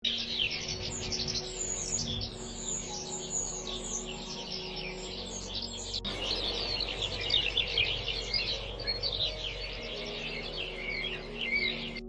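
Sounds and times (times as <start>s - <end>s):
birds chirping: 0.0s - 12.0s
steady low tone: 0.2s - 12.0s.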